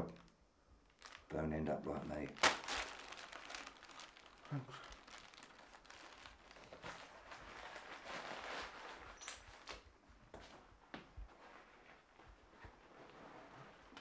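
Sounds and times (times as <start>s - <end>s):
cloth or paper rustling: 2.2s - 14.0s.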